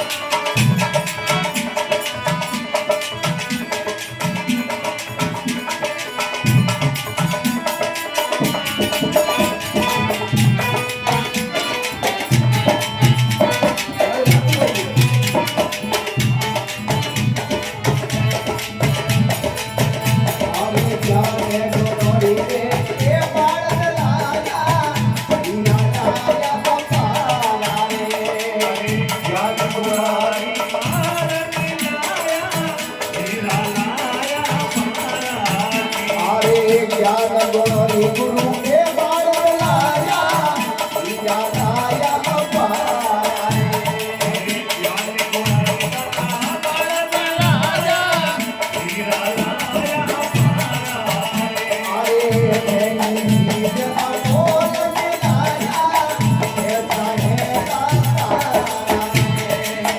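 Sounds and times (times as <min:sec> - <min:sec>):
jingling percussion: 0:00.0 - 0:59.9
steady hand drum beat: 0:00.0 - 0:59.9.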